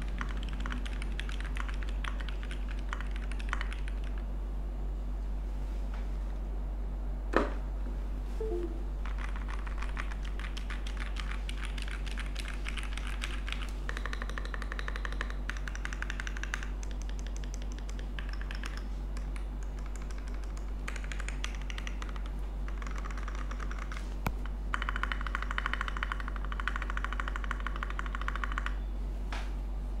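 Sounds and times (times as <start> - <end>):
fast mechanical keyboard typing: 0.0 - 4.3, 9.0 - 28.8.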